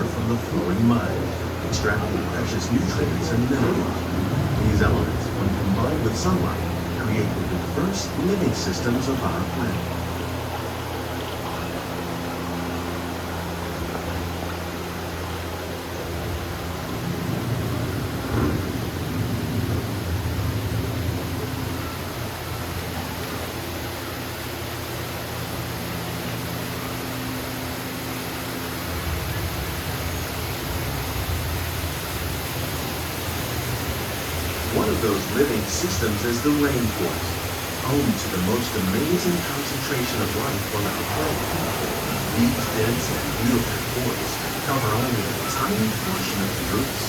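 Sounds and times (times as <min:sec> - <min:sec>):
low even hum: 0:00.0 - 0:47.0
rushing water: 0:00.0 - 0:47.0.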